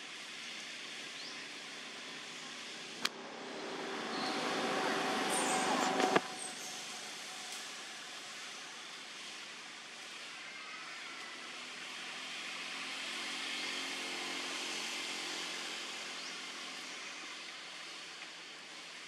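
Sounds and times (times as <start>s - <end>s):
outdoor hiss: 0.0s - 19.0s
distant engine hum: 0.1s - 19.0s.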